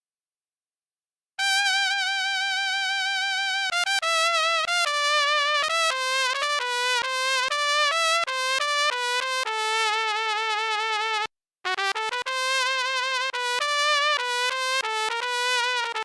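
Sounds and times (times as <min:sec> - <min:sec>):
sampled trumpet melody: 0:01.4 - 0:16.0.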